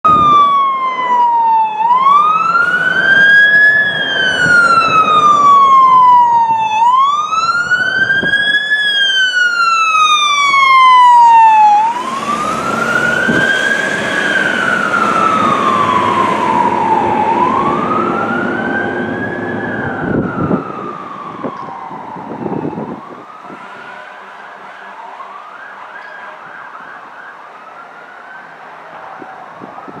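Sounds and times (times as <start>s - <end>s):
fire engine siren wailing: 0.0s - 30.0s.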